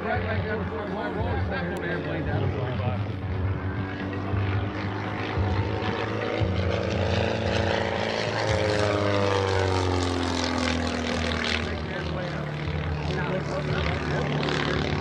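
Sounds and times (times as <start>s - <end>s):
biplane engine and propeller: 0.0s - 15.0s.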